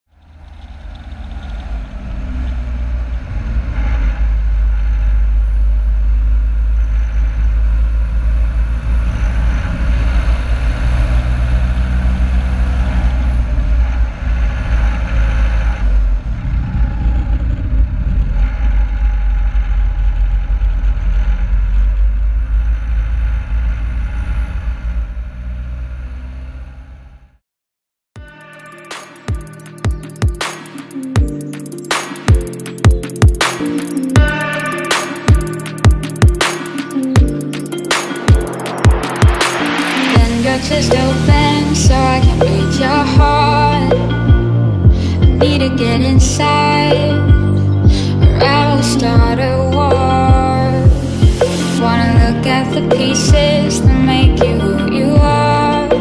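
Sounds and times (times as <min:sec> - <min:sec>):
car engine and road noise: 0:00.0 - 0:27.4, 0:28.2 - 0:56.0.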